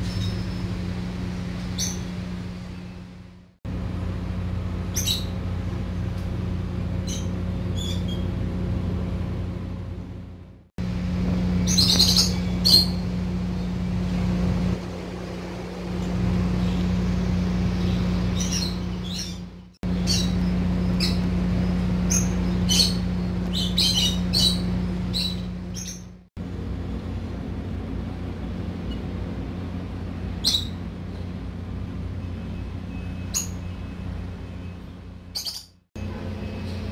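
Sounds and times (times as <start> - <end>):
birds chirping: 0.0 - 3.3, 4.8 - 6.2, 6.8 - 8.6, 11.3 - 26.2, 28.2 - 36.9
steady low hum and rumble: 0.0 - 36.9.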